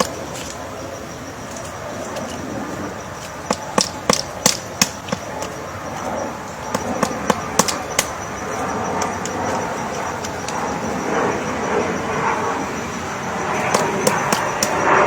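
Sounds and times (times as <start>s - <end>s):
woodpecker knocking on wood: 0.0s - 0.7s, 1.4s - 11.9s, 12.5s - 14.9s.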